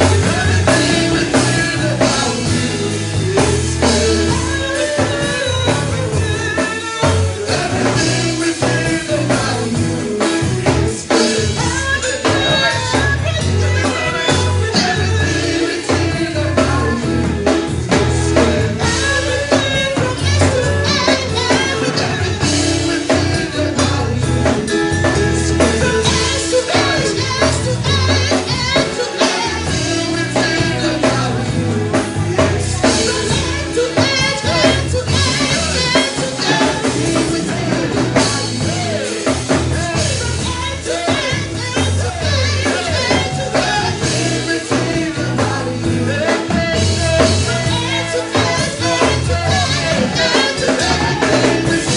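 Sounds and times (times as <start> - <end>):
bass guitar: 0.0 - 51.9
drum kit: 0.0 - 51.9
people singing: 0.0 - 51.9
worship band playing: 0.0 - 51.9.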